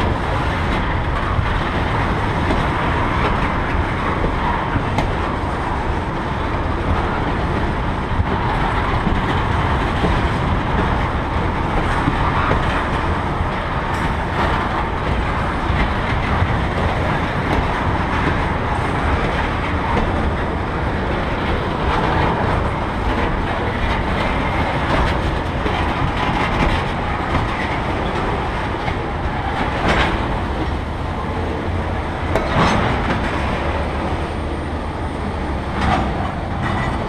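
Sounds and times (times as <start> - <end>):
freight train rumbling past: 0.0 - 37.0
wheels clicking over rail joints: 0.0 - 37.0.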